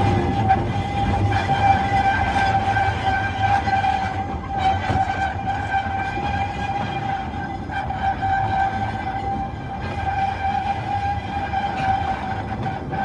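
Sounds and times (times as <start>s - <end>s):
train engine and wheels rumbling: 0.0s - 13.0s.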